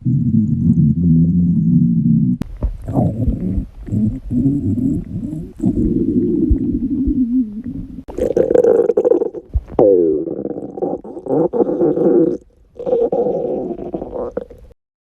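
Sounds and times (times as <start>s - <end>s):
stomach growling: 0.0s - 14.8s.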